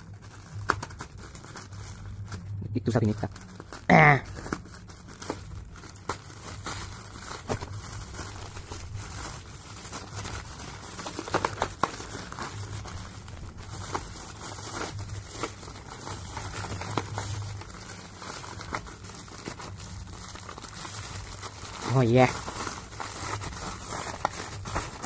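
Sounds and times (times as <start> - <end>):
plastic and bubble wrap crinkling: 0.0 - 25.0.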